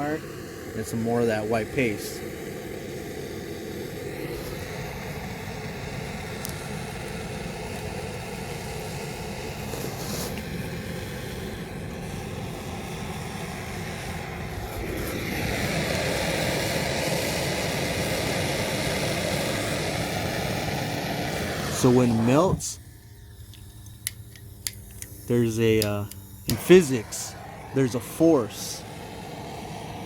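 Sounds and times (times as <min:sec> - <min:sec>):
gas torch flame burning: 0:00.0 - 0:30.0.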